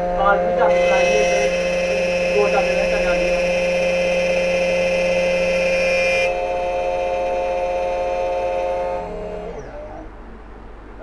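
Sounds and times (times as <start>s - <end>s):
key cutting machine whining: 0.0s - 10.2s.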